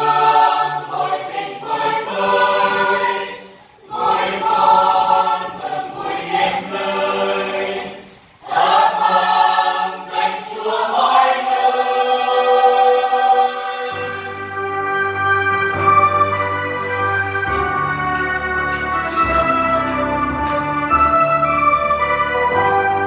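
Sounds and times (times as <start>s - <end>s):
mixed choir singing a hymn: 0.0s - 23.0s.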